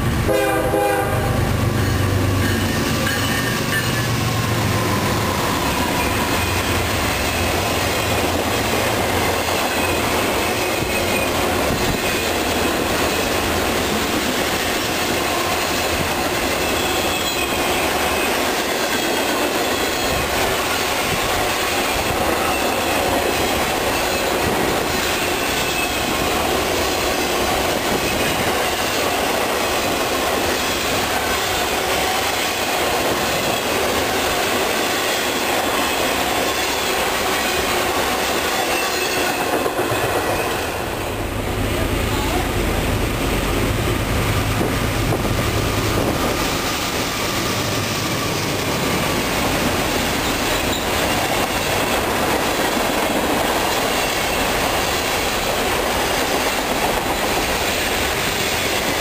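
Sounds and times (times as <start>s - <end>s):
diesel locomotive engine rumble: 0.0s - 59.0s
train wheels on rails: 0.0s - 59.0s.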